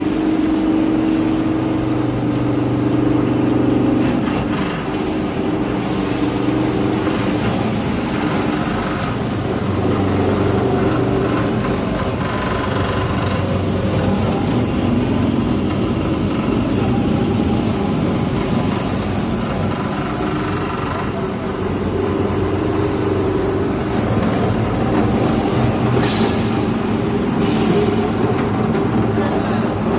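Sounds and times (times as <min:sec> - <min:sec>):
electric motor hum: 0:00.0 - 0:25.9.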